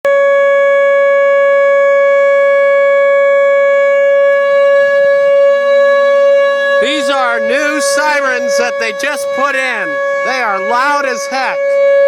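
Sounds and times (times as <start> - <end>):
tornado siren steady tone: 0.0 - 12.0.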